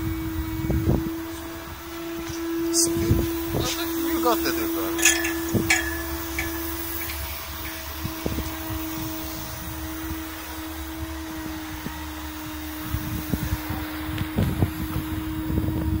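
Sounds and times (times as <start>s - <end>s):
steam cleaning machine humming: 0.0s - 16.0s.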